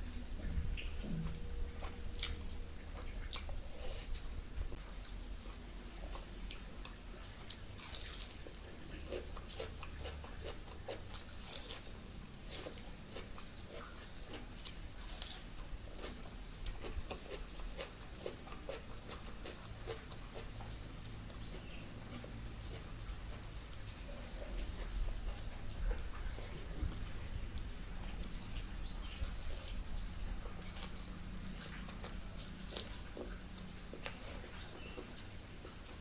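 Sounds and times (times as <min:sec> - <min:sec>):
person chewing food: 0:00.0 - 0:36.0.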